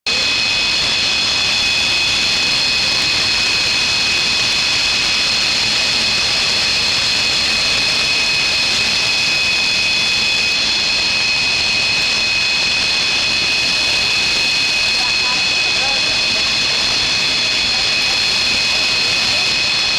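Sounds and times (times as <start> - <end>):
jet engine hiss and whine: 0.1 - 19.9.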